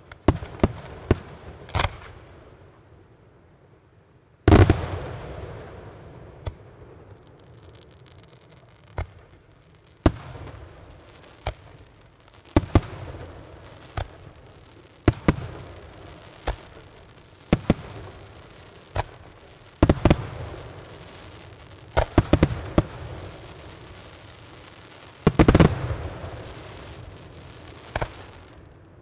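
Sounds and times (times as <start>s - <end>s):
fireworks rumble: 4.4s - 29.0s
fireworks bangs: 4.5s - 5.8s, 6.4s - 28.7s.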